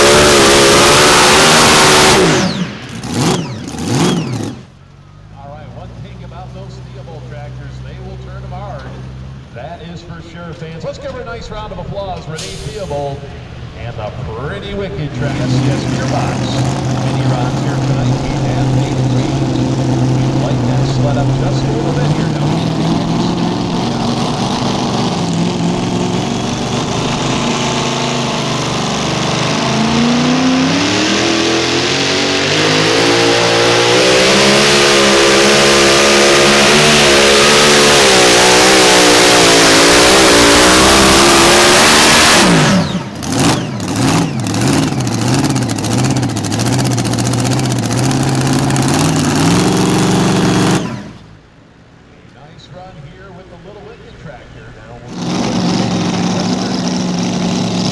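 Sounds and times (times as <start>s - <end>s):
tractor engine at full power: 0.0s - 51.6s, 54.4s - 57.9s.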